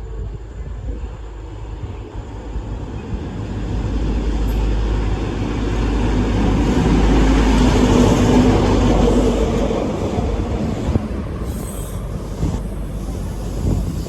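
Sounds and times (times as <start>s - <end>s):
train rumble and rail noise: 0.0s - 14.0s.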